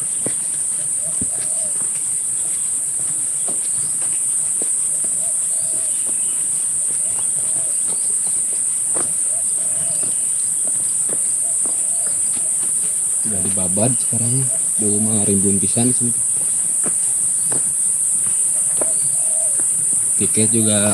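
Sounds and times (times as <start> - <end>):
insects droning: 0.0 - 20.9.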